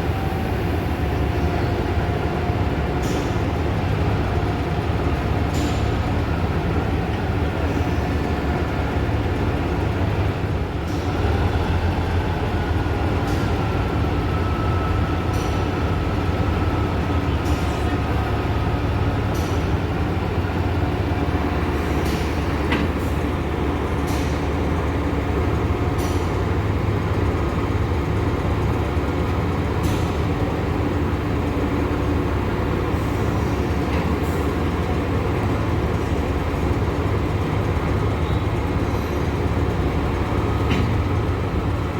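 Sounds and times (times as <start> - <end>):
diesel engine rumbling: 0.0 - 41.9.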